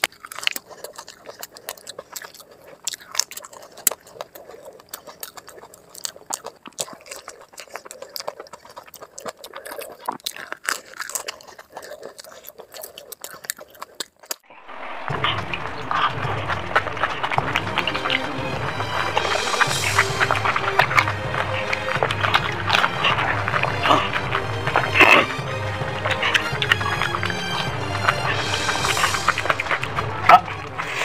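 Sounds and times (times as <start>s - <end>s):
crisp shells crunching: 0.0s - 31.0s
wet chewing: 0.0s - 31.0s.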